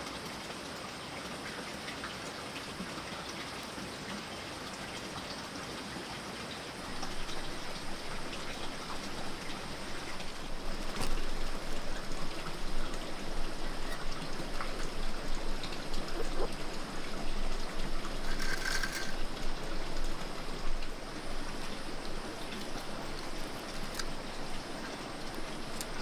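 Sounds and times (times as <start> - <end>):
steady water noise: 0.0 - 26.0.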